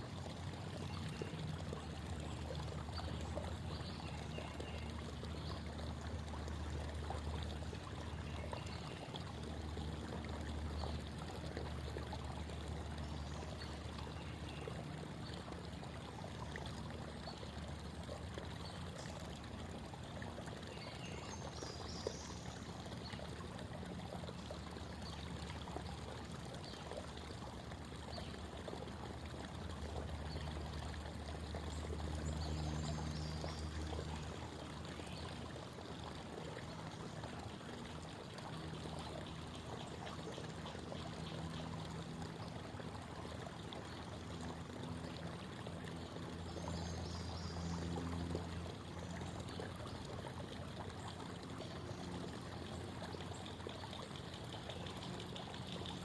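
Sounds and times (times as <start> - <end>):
creek water babbling over rocks: 0.0 - 56.0.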